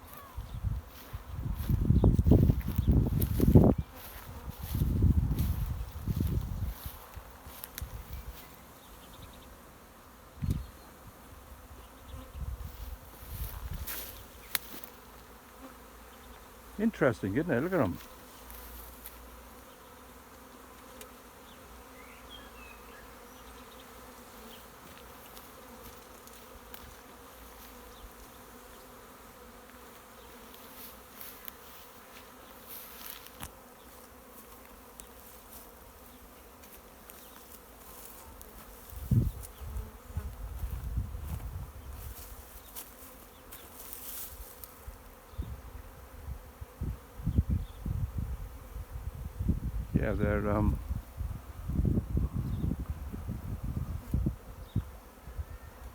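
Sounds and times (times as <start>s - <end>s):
bee swarm buzzing: 0.0s - 55.9s.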